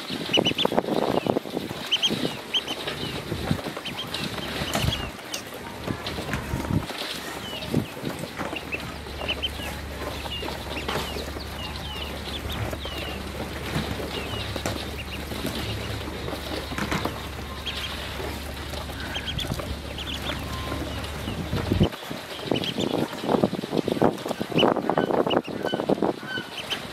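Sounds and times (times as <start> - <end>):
ducklings peeping: 0.0 - 26.9
low steady rumble: 2.1 - 24.5.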